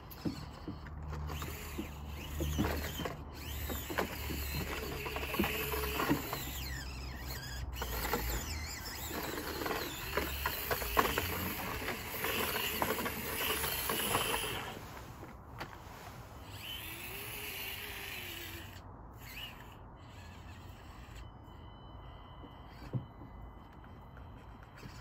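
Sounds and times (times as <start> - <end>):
small electric motor whirring: 0.0 - 15.2, 16.0 - 25.0.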